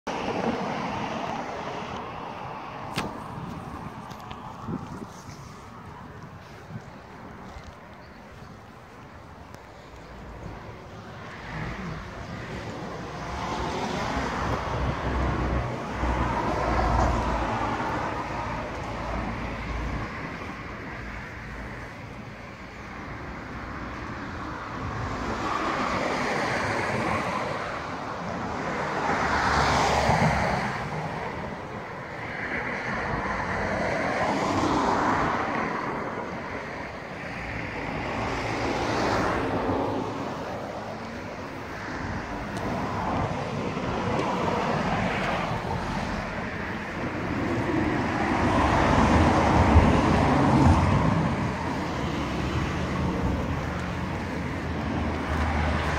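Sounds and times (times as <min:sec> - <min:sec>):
vehicles passing: 0:00.0 - 0:55.9.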